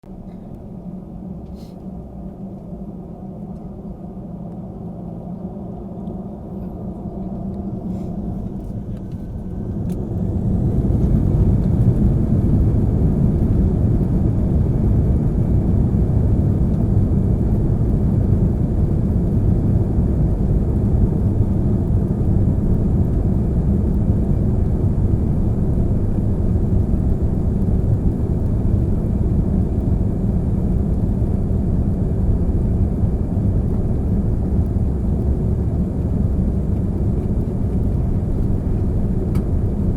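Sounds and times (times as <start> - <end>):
plane rumbling down runway: 0.0 - 39.9
jet engines roaring: 4.9 - 39.9.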